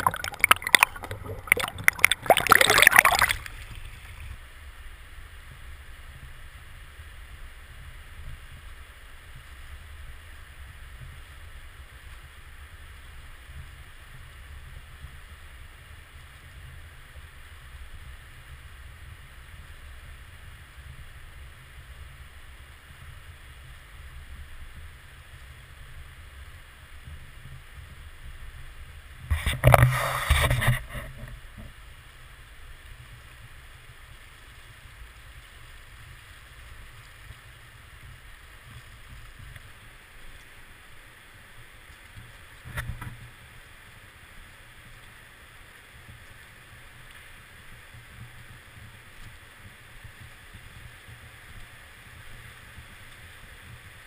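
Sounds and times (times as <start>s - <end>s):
river water running over stones: 0.0s - 54.0s.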